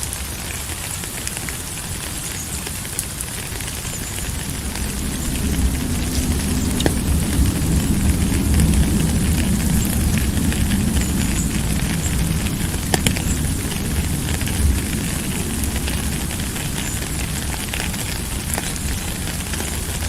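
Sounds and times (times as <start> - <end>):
steady rain: 0.0 - 20.0
low rumble: 3.6 - 20.0.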